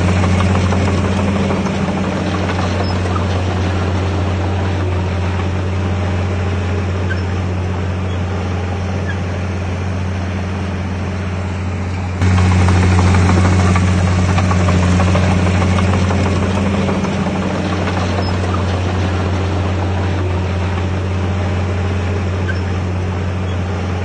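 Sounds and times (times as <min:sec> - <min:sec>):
heavy diesel engine humming: 0:00.0 - 0:24.0.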